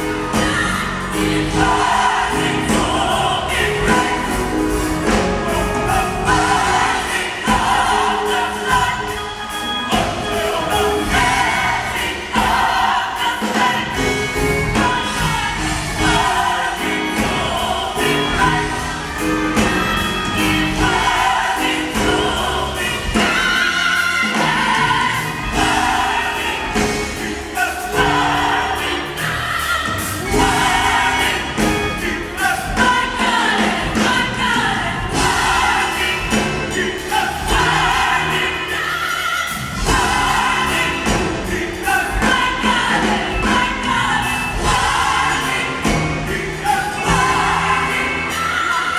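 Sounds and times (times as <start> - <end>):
choir singing in harmony: 0.0 - 48.9.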